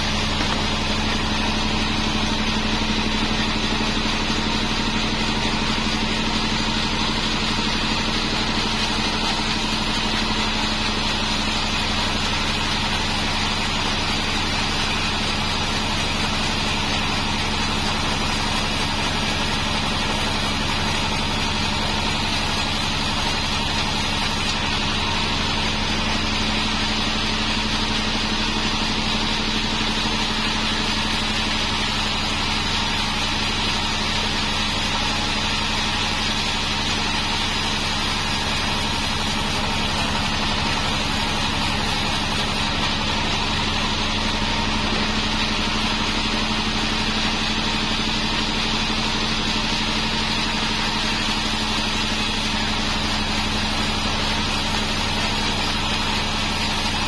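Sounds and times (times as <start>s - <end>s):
bandsaw mill sawing wood: 0.0s - 57.0s.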